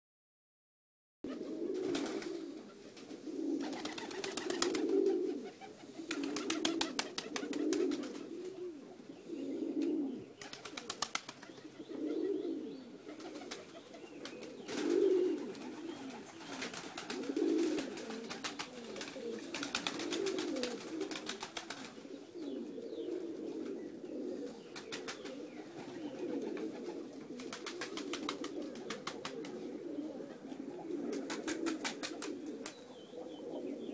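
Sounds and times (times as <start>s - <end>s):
pigeons cooing: 1.3s - 33.9s.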